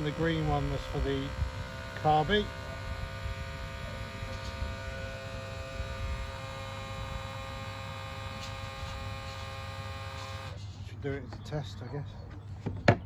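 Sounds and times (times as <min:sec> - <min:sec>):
electrical hum: 0:00.0 - 0:10.7.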